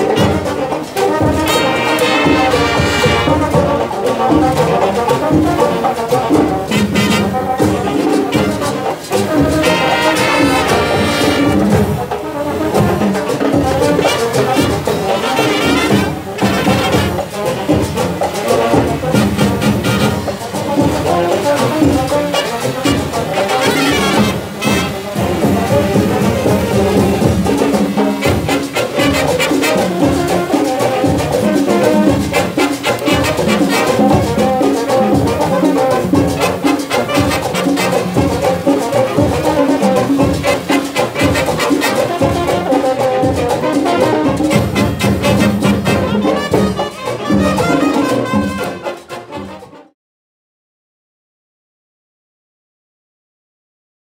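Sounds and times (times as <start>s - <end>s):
drum beats: 0.0s - 49.8s
brass melody: 0.0s - 50.0s
marching band playing: 0.0s - 50.0s.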